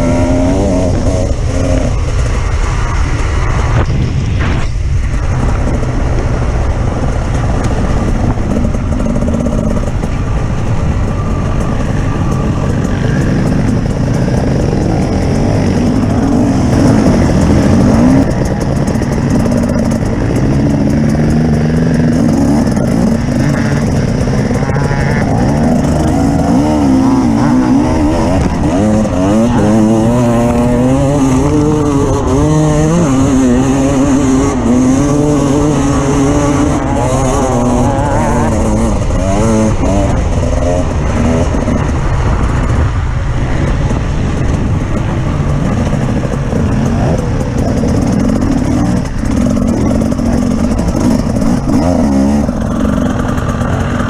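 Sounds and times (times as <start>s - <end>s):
off-road vehicle engine running hard: 0.0s - 54.0s.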